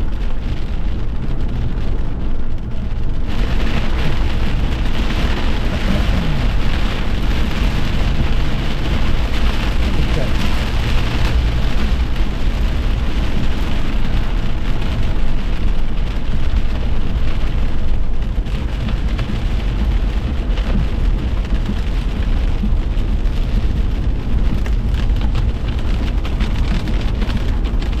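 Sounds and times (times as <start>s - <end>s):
deep rumble: 0.0s - 28.0s
heavy rain downpour: 0.0s - 28.0s.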